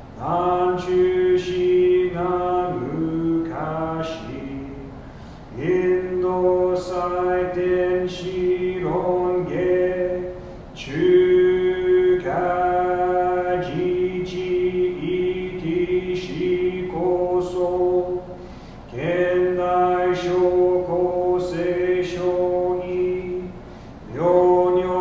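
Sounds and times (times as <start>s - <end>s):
man chanting: 0.2s - 25.0s.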